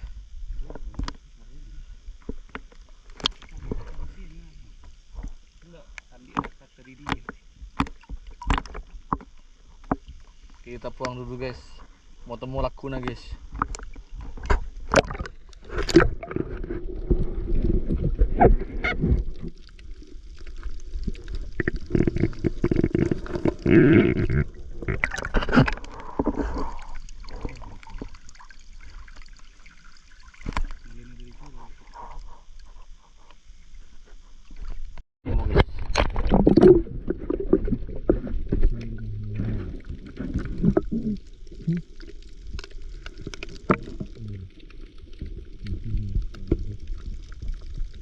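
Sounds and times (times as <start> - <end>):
water splashing and sloshing: 2.1 - 48.0.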